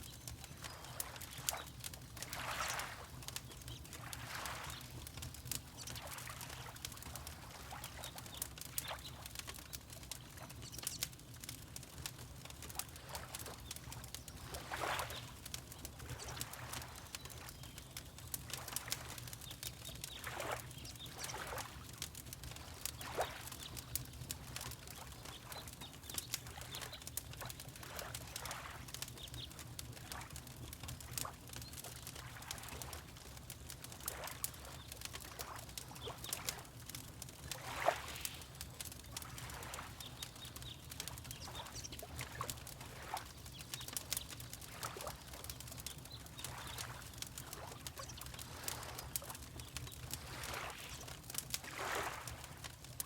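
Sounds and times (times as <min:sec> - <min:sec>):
fireplace crackling and popping: 0:00.0 - 0:53.0
water lapping: 0:00.6 - 0:09.0, 0:12.7 - 0:17.6, 0:20.2 - 0:29.0, 0:32.2 - 0:52.7.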